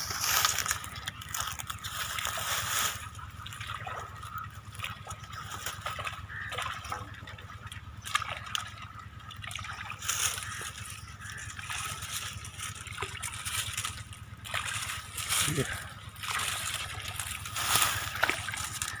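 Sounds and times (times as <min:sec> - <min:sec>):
water trickling and sloshing: 0:00.0 - 0:19.0
small splashes and clicks: 0:00.2 - 0:19.0.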